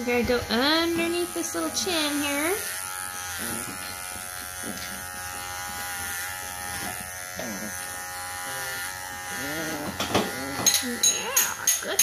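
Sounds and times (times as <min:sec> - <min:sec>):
electric clippers buzzing: 0:00.0 - 0:12.0.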